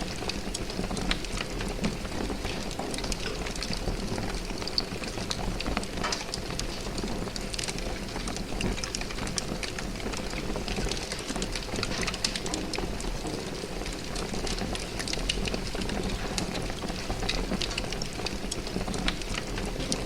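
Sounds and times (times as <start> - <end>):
fire crackling and snapping: 0.0 - 20.0
low rumble of flames: 0.0 - 20.0.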